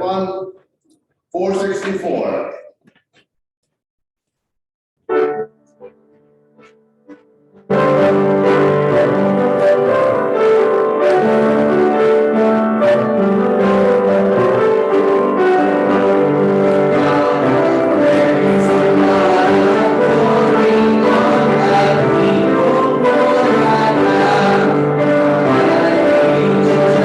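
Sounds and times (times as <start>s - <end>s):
keyboard playing hymn chords: 5.0s - 27.0s.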